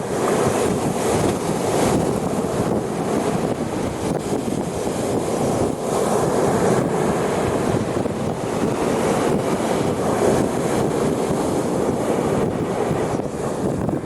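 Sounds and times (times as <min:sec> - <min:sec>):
sea waves on shore: 0:00.0 - 0:14.0
wind buffeting microphone: 0:00.0 - 0:14.0.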